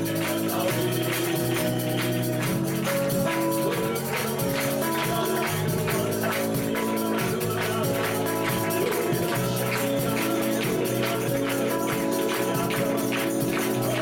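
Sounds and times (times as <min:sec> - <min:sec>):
instrumental band music: 0:00.0 - 0:14.0
percussion beat: 0:00.0 - 0:14.0.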